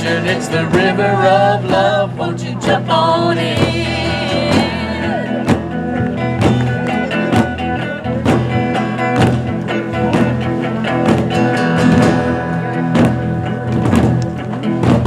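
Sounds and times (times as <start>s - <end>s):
large drum beating: 0.0s - 15.0s
sustained guitar chords: 0.0s - 15.0s.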